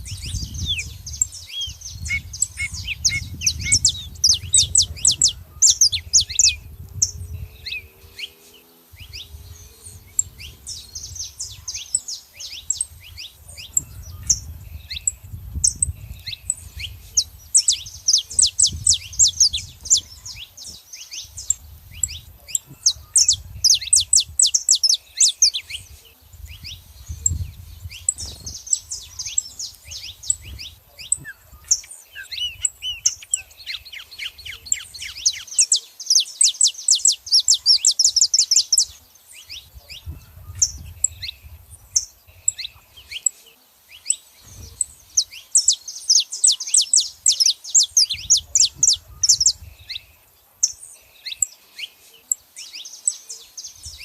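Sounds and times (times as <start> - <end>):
finches chirping and trilling: 0.0 - 54.0.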